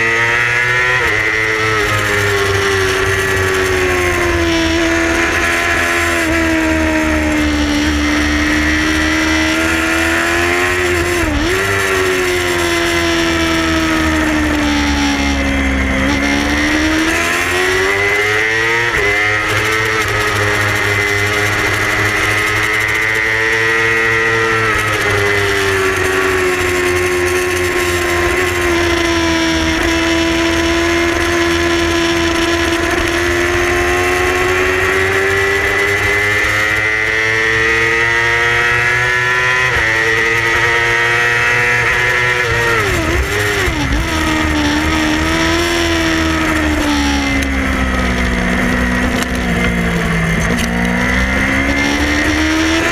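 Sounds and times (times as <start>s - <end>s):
low rush of wind: 0.0s - 52.9s
race bike engine revving: 0.0s - 52.9s.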